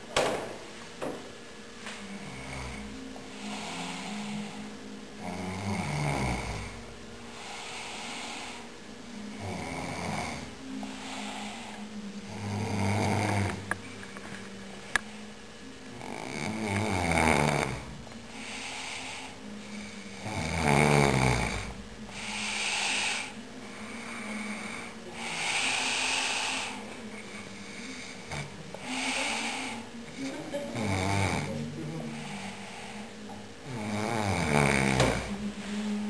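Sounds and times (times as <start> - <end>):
person snoring: 2.1 - 13.8, 15.9 - 36.0.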